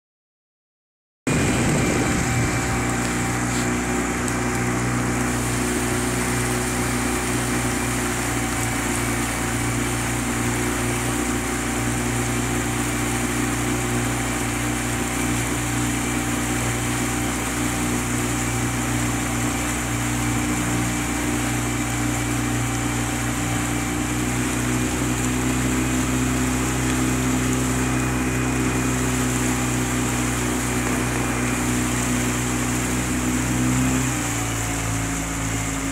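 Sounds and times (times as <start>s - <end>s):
outboard motor droning: 1.3s - 35.9s.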